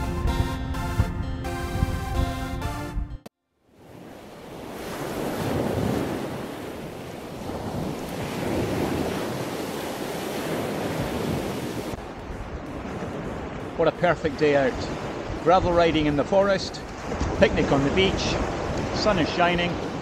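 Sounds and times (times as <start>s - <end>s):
wind on microphone: 0.0s - 3.2s, 3.9s - 20.0s
surf breaking on beach: 3.8s - 20.0s.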